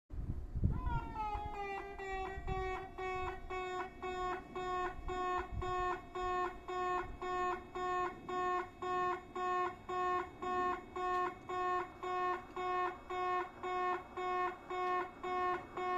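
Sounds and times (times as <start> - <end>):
level crossing warning bell: 1.0 - 15.9.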